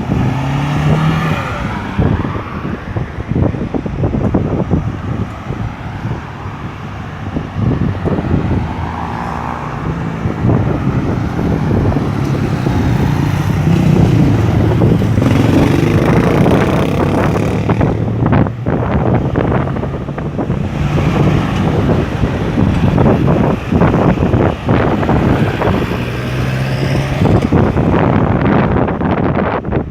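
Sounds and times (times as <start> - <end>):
cars passing: 0.0 - 29.9.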